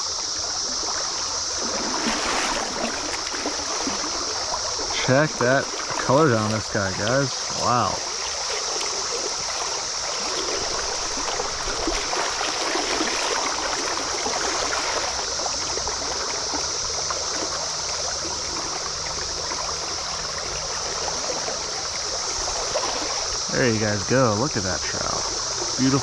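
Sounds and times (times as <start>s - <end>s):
cicadas droning: 0.0s - 26.0s
stream water running: 0.0s - 26.0s.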